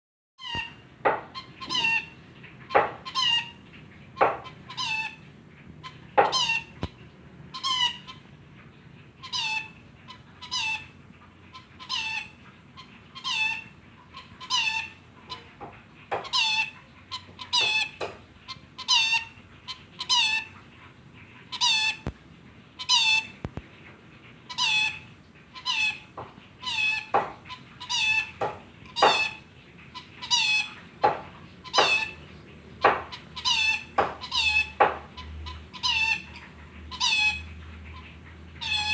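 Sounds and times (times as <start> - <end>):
parrot squeaky calls: 0.4 - 6.9, 7.5 - 8.3, 9.2 - 20.6, 21.5 - 22.1, 22.8 - 23.4, 24.5 - 32.2, 32.8 - 38.9.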